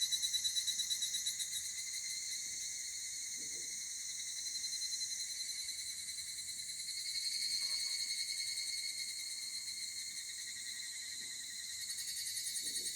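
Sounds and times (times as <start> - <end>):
cicadas calling in chorus: 0.0 - 12.9.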